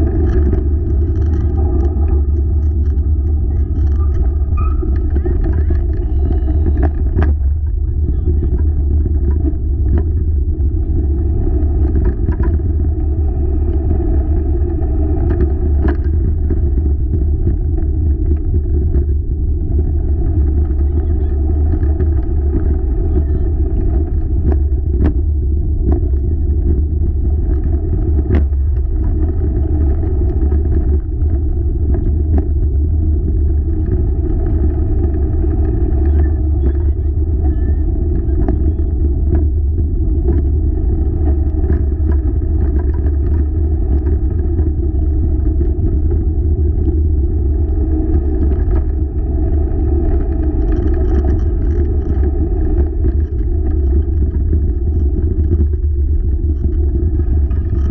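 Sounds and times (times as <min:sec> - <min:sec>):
sharp clicks and rattles: 0:00.0 - 0:57.9
wheeled rig rumbling: 0:00.0 - 0:57.9.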